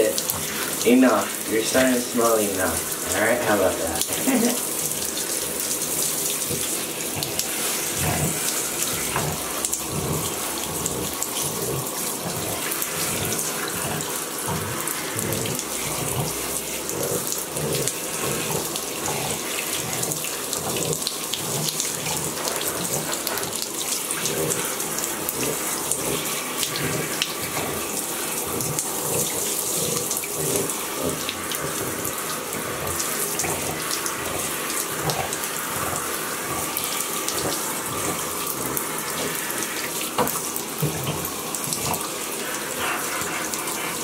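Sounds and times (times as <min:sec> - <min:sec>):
shower spray hissing: 0:00.0 - 0:44.0
water splashing: 0:00.0 - 0:44.0.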